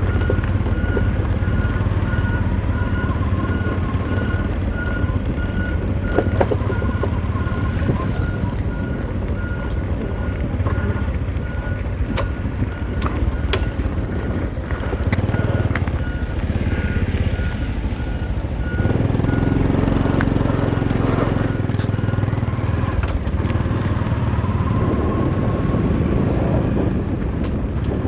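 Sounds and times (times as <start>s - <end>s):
reversing alarm beeping: 0.0s - 26.9s
heavy diesel machinery running: 0.0s - 28.0s.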